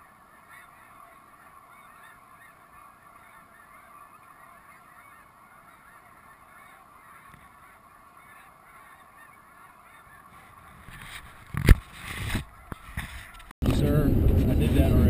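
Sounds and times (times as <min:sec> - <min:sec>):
flock of geese honking: 0:00.0 - 0:13.5.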